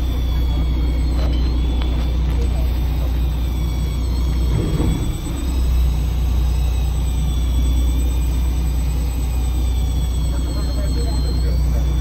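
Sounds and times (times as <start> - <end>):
boat engine droning: 0.0 - 12.0
faint thin whine: 0.0 - 12.0.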